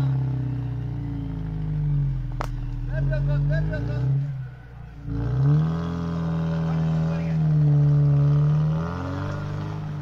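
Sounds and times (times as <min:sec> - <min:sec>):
suv engine revving: 0:00.0 - 0:10.0.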